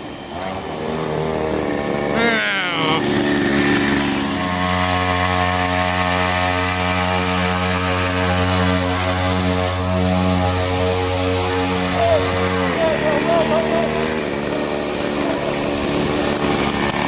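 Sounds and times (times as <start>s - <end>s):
two-stroke engine running: 0.0s - 17.0s.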